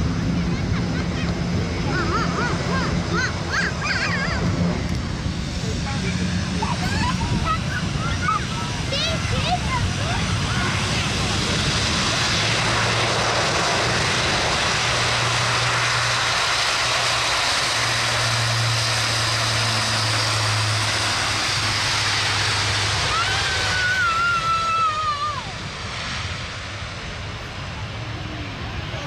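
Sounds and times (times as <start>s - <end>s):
turboprop engines roaring: 0.0s - 29.0s.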